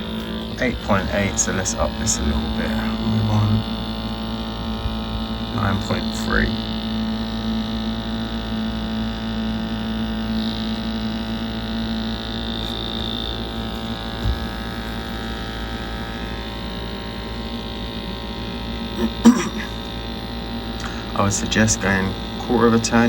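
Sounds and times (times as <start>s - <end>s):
gas boiler humming: 0.0s - 23.0s.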